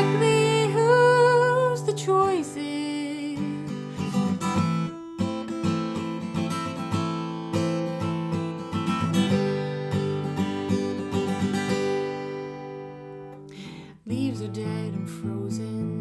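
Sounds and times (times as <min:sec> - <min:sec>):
acoustic guitar strumming chords: 0:00.0 - 0:13.4.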